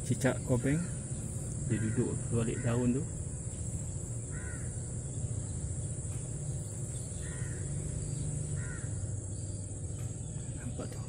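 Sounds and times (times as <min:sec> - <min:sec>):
bird calls: 0:00.0 - 0:11.0
steady low rumble: 0:00.0 - 0:11.0.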